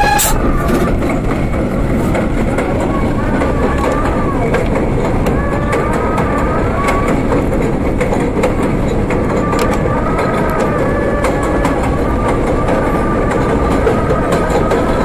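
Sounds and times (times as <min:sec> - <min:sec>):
subway train rumbling: 0:00.0 - 0:15.0
wheels clicking over rail joints: 0:00.0 - 0:15.0.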